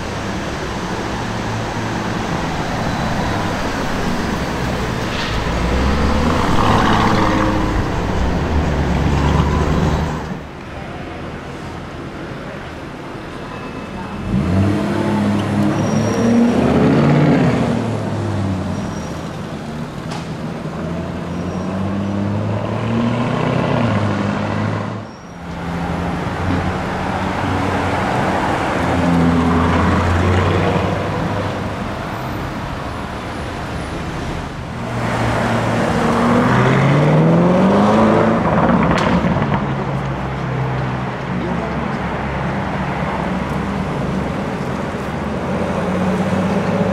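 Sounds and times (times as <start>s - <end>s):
car engines accelerating: 0.0s - 10.7s, 14.0s - 46.9s.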